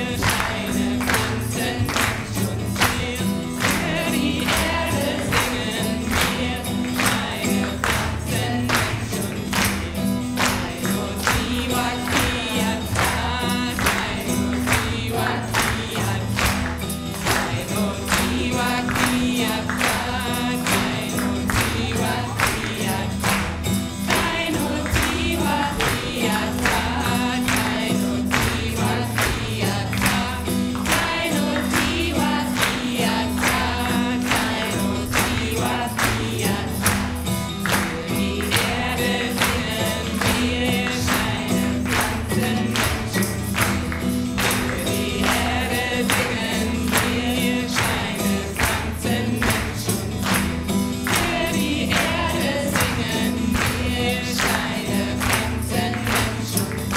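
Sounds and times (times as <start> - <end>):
acoustic guitar: 0.0 - 56.9
steady percussive beat: 0.0 - 56.9.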